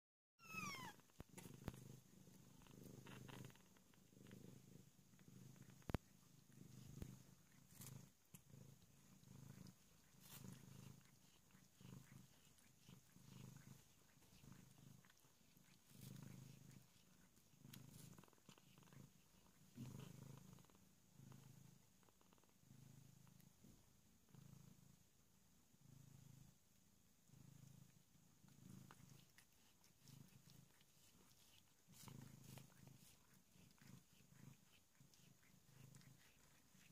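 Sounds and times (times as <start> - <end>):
cat purring: 0.4 - 36.9.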